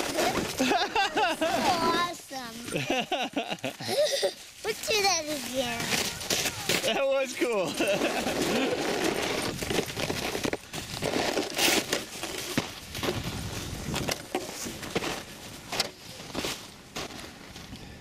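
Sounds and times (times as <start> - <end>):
sled scraping over snow: 0.0 - 3.1, 3.8 - 17.7
sled knocks and jolts: 0.0 - 17.7.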